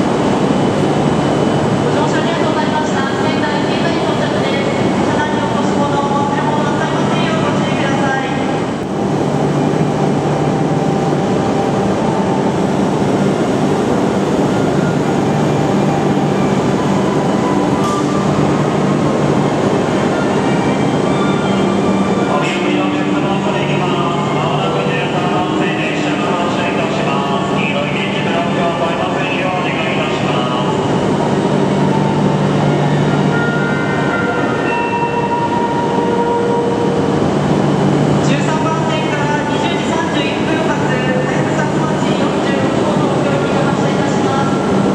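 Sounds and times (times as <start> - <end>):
train rushing past: 0.0 - 44.9.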